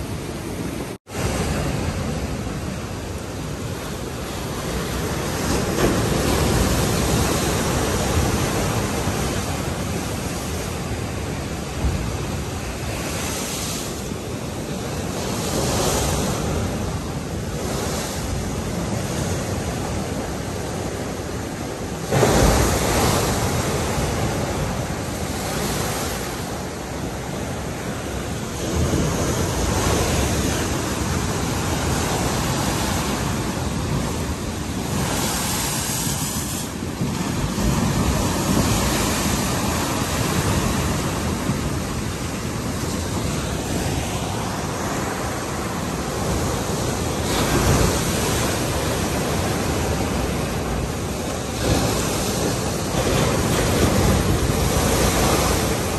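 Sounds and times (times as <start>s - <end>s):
surf crashing against seawall: 0.0s - 55.9s.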